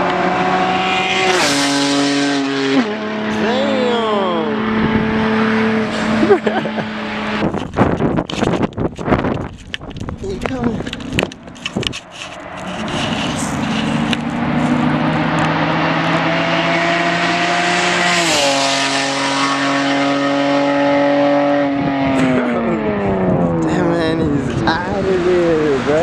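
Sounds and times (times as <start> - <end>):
loud car exhaust passing by: 0.0 - 8.4, 10.8 - 26.0.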